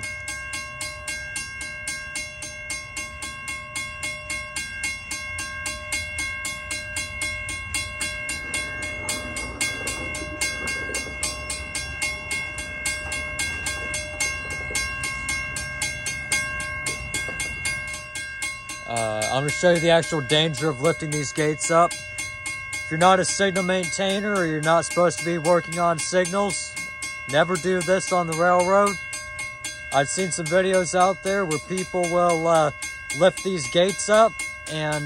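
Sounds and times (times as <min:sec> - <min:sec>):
railroad crossing bell ringing: 0:00.0 - 0:35.0.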